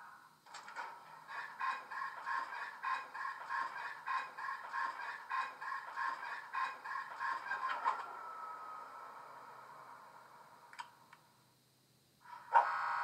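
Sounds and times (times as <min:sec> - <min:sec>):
falling whine: 0:01.1 - 0:11.6.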